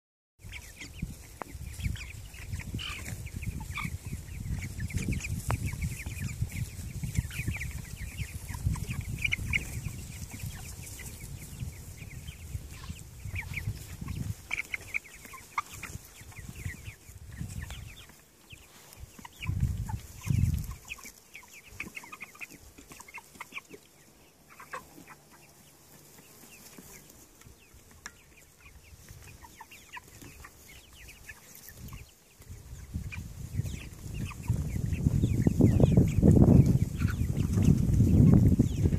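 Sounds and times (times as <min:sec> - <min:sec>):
chickens cheeping and clucking: 0:00.4 - 0:38.9.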